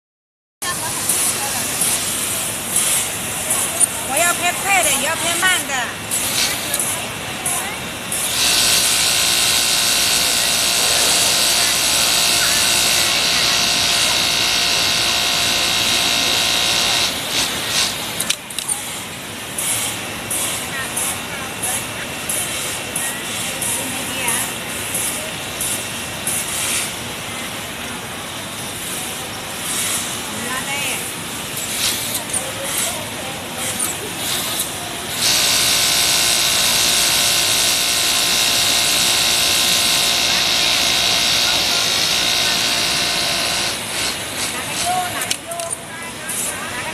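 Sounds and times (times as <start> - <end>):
industrial sewing machine running: 0.6 - 45.7.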